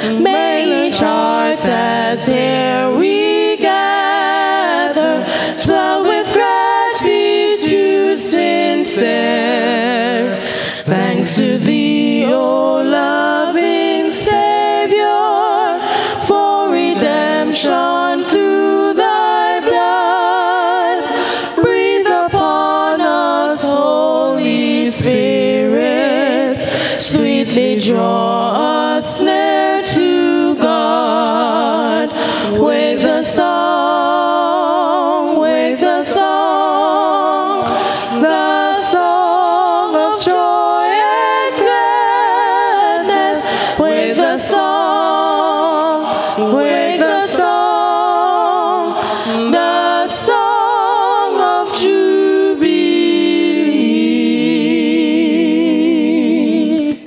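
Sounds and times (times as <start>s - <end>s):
vocal trio singing in harmony: 0.0s - 57.0s.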